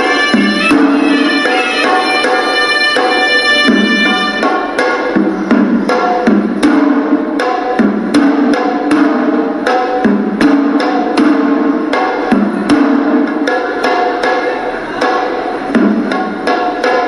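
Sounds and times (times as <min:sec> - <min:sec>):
hand-beaten drums: 0:00.0 - 0:17.0.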